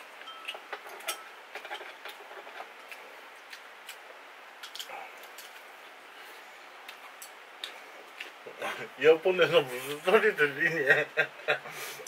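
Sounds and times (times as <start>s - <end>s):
faint steady hiss: 0.0s - 12.0s
quiet eating sounds: 0.0s - 12.0s.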